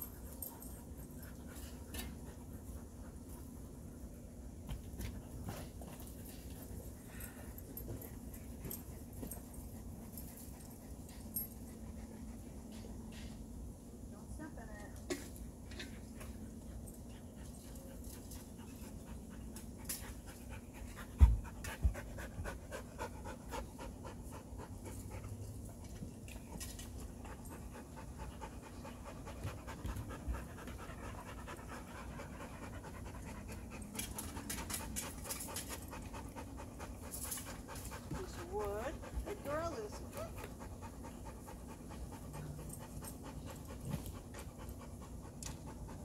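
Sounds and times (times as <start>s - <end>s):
dog panting: 5.0s - 13.4s, 15.8s - 46.0s.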